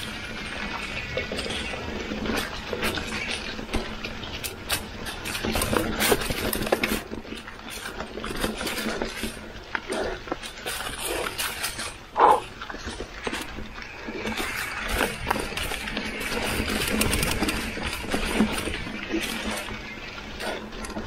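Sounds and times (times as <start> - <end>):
bike knocking and rattling: 0.0 - 21.0
tires crunching through leaves: 0.0 - 21.0.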